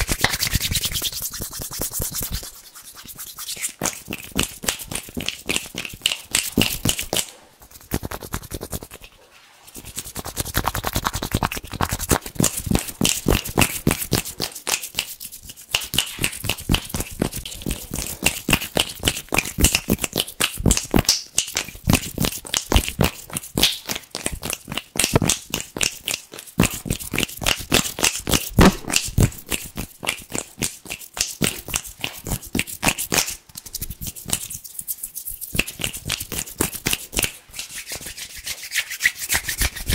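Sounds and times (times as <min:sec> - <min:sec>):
hands rubbing together: 0:00.0 - 0:18.9, 0:24.5 - 0:39.9.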